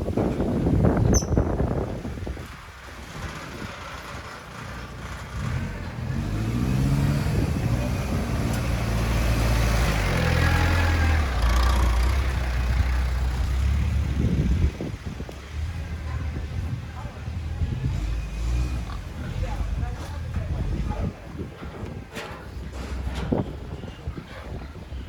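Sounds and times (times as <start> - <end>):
truck engine revving: 0.3 - 25.0.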